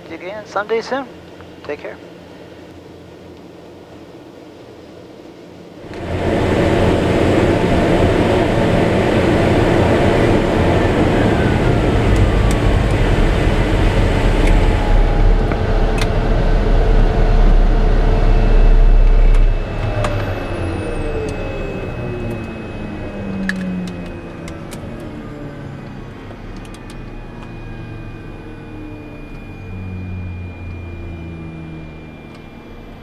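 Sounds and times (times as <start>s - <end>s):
turboprop engine and propeller: 0.0s - 33.0s
thin whining tones: 5.9s - 33.0s.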